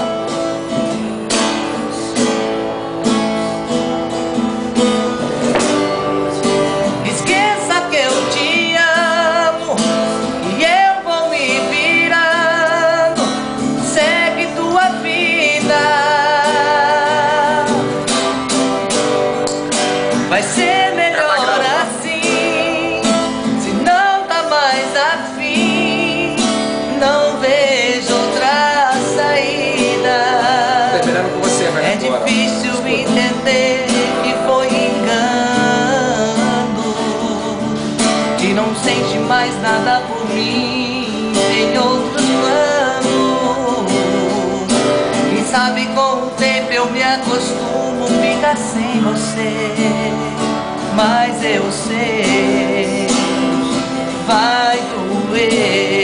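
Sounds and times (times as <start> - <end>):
man singing with vibrato: 0.0 - 56.0
strummed guitar: 0.0 - 56.0.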